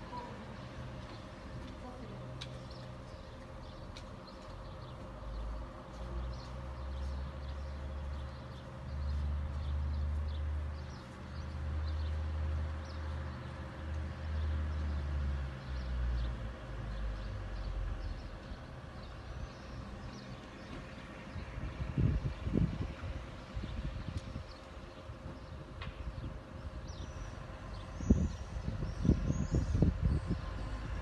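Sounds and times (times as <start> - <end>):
birds chirping: 0.1 - 13.6, 14.4 - 22.5, 23.1 - 30.9.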